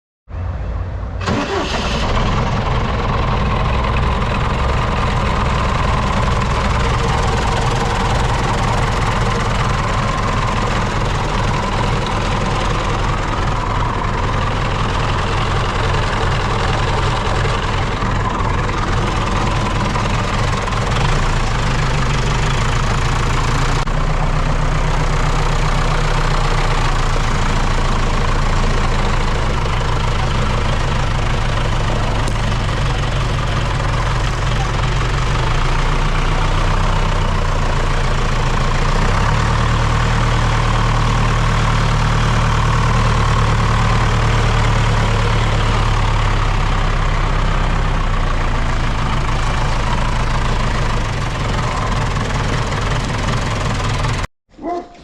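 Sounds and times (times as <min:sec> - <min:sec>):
tractor diesel engine idling: 0:00.4 - 0:54.3.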